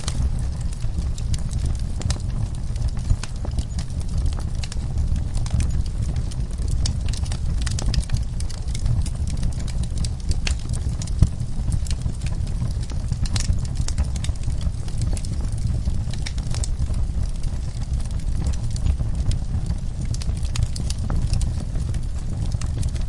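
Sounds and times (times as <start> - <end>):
low rumble: 0.0 - 23.0
wood fire crackling and popping: 0.0 - 23.0.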